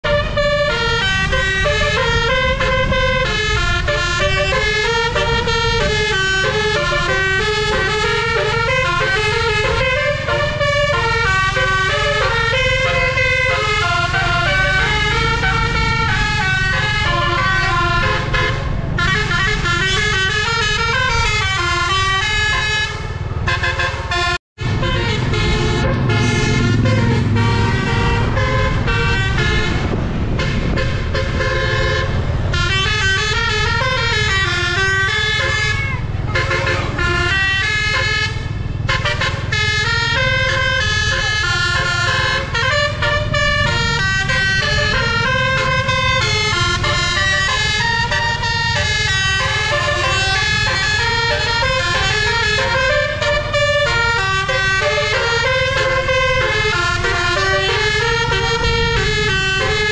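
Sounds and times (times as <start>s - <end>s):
musical air horn melody: 0.0s - 59.9s.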